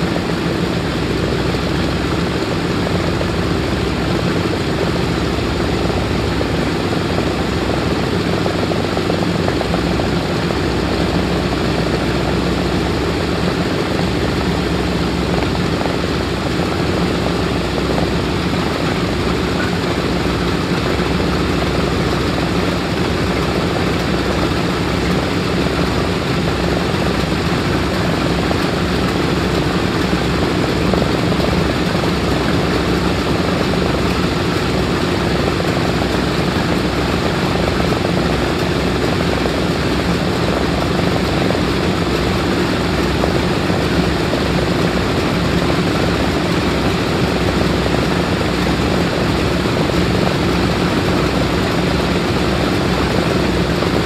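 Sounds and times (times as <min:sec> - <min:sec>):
loud propeller drone: 0:00.0 - 0:54.0
radial piston engines idling: 0:00.0 - 0:54.0.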